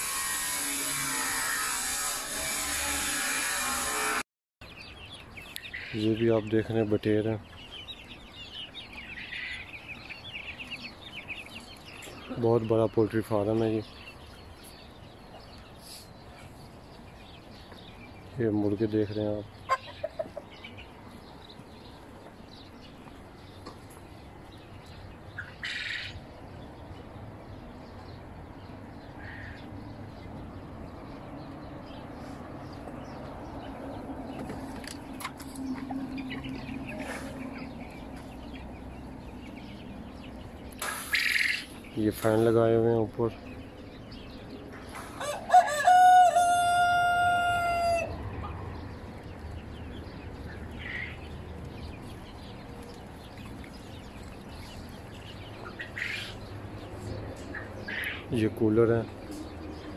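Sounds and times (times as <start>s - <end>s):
chickens and birds calling: 0.0s - 59.9s.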